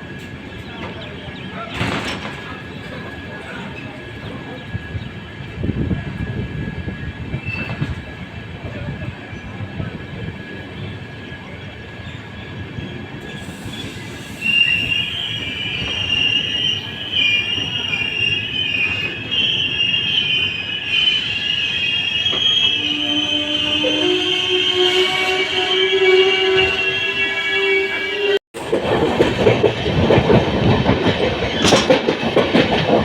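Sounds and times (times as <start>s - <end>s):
train coaches rumbling on track: 0.0s - 33.0s.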